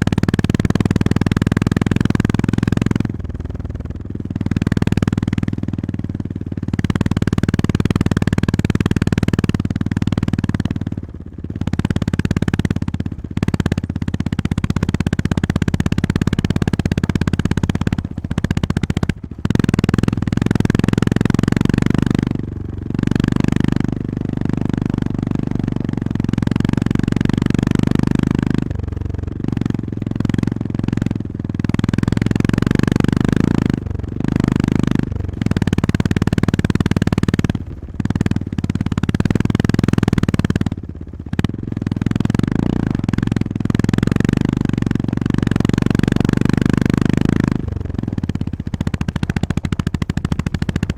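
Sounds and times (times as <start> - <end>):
motorcycle engine: 0.0 - 50.9.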